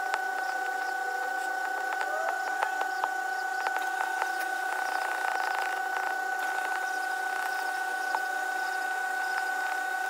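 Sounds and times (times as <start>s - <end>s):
steady high-pitched hum: 0.0s - 10.0s.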